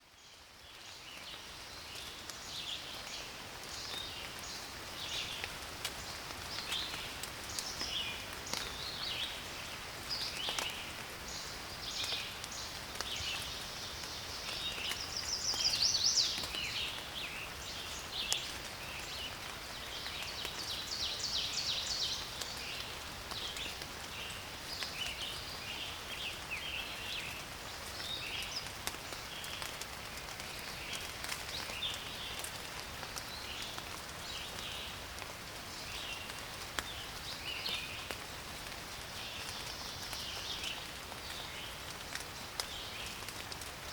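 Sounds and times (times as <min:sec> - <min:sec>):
raindrops ticking: 0:00.4 - 0:43.9.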